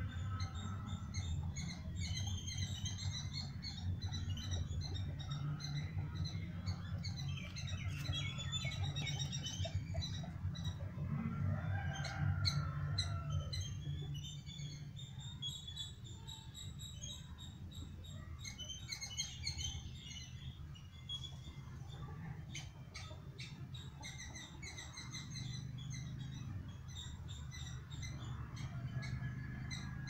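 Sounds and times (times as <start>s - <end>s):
small birds chirping: 0.0s - 11.0s, 11.7s - 30.0s.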